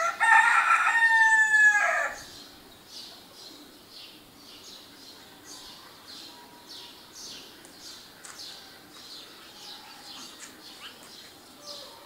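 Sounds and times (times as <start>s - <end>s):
small songbirds chirping: 2.0s - 12.0s.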